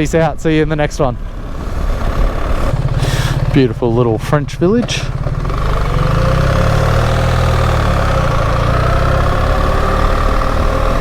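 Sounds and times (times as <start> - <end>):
motorcycle engine running: 1.0 - 11.0.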